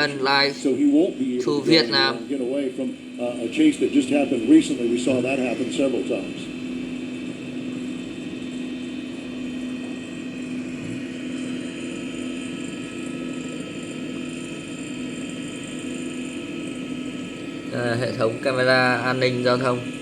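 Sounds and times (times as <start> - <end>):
helicopter engine drone: 0.0 - 20.0.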